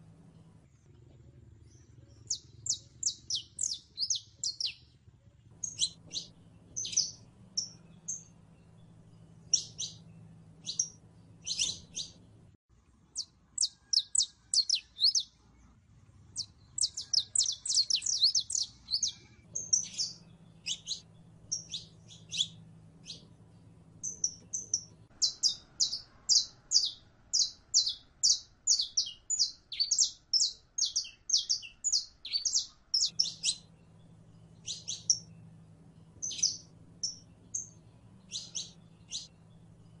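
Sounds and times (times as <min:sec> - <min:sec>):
finch singing chirps and trills: 0:01.6 - 0:12.4, 0:13.1 - 0:15.5, 0:16.3 - 0:40.0.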